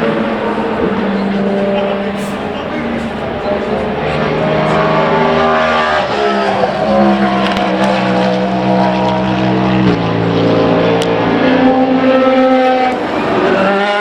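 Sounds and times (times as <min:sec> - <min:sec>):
racing car engines at high revs: 0:00.0 - 0:14.0.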